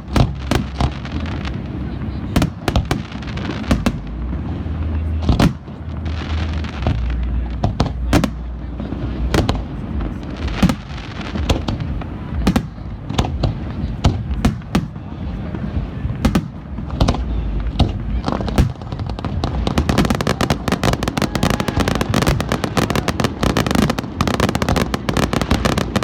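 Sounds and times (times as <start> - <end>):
fireworks bangs and cracks: 0.0 - 26.0
low rumble: 0.0 - 26.0.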